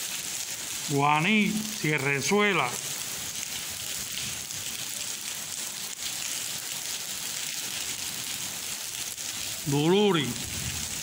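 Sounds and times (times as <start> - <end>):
rain falling on paving: 0.0 - 11.0.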